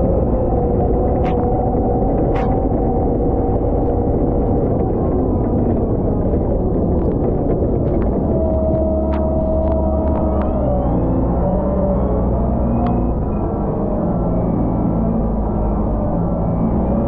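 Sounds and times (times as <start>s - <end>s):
diesel engine rumbling with whine: 0.0s - 17.0s.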